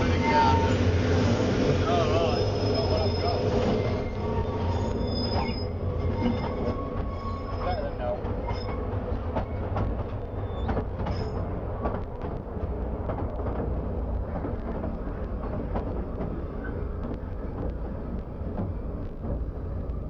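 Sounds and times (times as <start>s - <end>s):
mine train rumbling: 0.0s - 20.0s.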